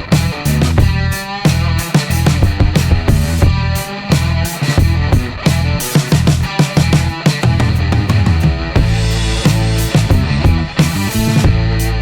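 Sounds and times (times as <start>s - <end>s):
distorted electric guitar: 0.0s - 12.0s
driving drum beat: 0.0s - 12.0s.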